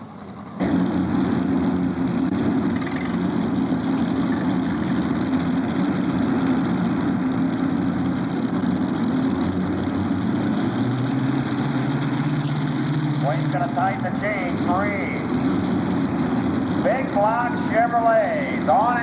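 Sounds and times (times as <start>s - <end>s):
tractor engines idling: 0.0s - 19.0s.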